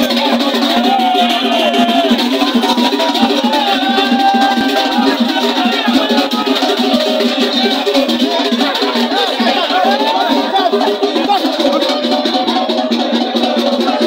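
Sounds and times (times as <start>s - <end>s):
rattles and drums beat: 0.0s - 14.0s.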